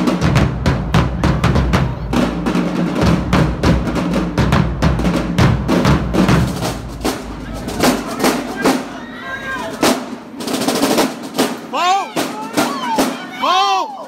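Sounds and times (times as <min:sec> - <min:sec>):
bass drums and snare drums: 0:00.0 - 0:13.6.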